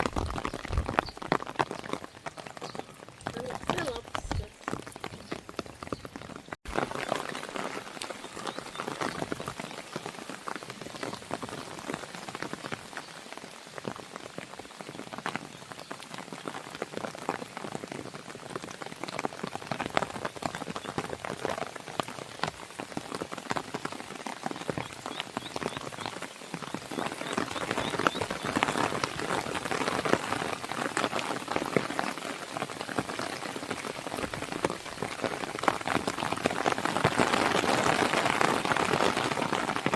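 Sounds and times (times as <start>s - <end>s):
rain falling against a window: 0.0s - 39.9s.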